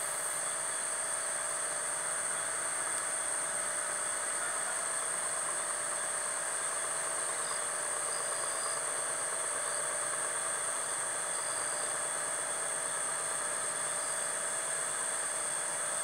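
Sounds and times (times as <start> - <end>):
distant machinery hum: 0.0 - 16.0
high-pitched insect trill: 0.0 - 16.0.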